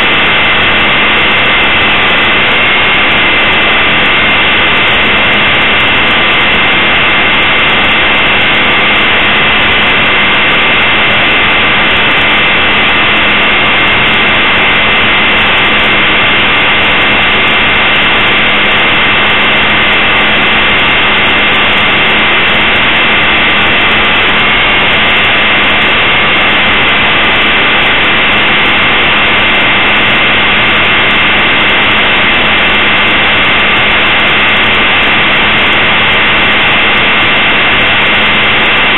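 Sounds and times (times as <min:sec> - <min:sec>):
constant rushing noise: 0:00.0 - 0:38.9
rc helicopter high whine: 0:00.0 - 0:38.9.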